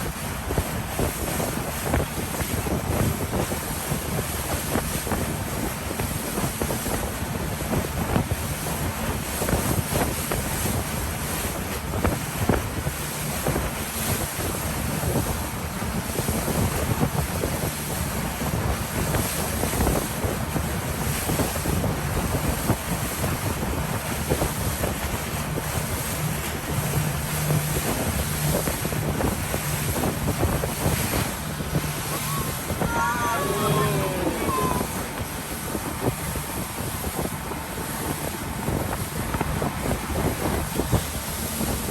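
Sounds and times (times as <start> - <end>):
motorboat engine drone: 0.0 - 41.9
rushing water: 0.0 - 41.9
wind noise on microphone: 0.0 - 41.9.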